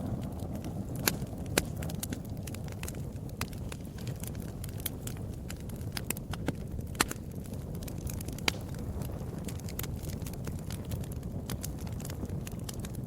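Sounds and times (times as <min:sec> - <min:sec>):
fireplace fire crackling: 0:00.0 - 0:13.0
sharp pops of fire: 0:00.0 - 0:13.0.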